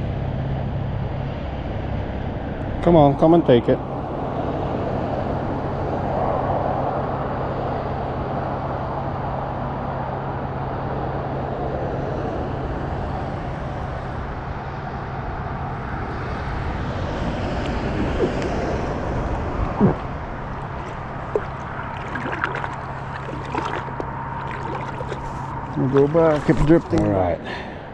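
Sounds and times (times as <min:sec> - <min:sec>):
distant engine drone: 0:00.0 - 0:27.9
outdoor noise: 0:00.0 - 0:27.9.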